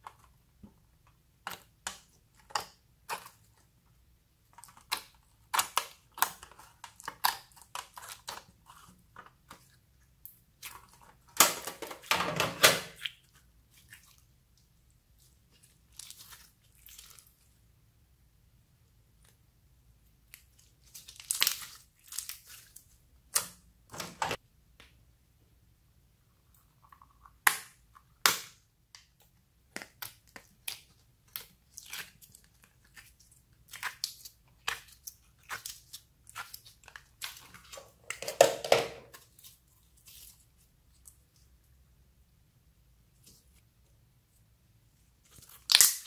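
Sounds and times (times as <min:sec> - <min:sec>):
slime squishing by hand: 0:00.0 - 0:17.8, 0:19.0 - 0:24.8, 0:26.4 - 0:38.4, 0:39.0 - 0:42.0, 0:42.9 - 0:46.0.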